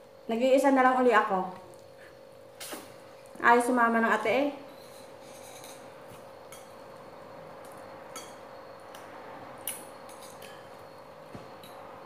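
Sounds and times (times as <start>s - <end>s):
steady faint hum: 0.0s - 12.0s.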